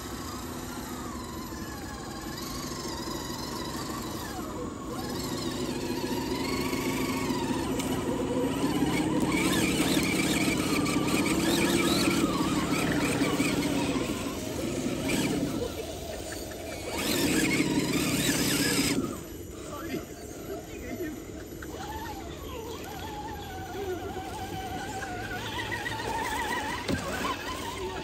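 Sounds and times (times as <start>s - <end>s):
rc truck motors whining: 0.0s - 28.0s.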